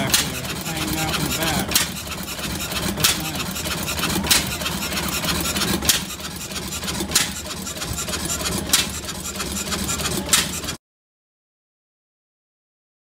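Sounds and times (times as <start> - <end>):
low engine drone: 0.0 - 10.8.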